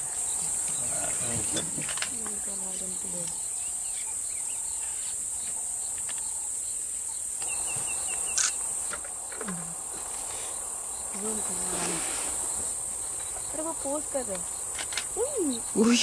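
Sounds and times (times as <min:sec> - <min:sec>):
bird chirps: 0:00.0 - 0:16.0
high-pitched insect drone: 0:00.0 - 0:16.0.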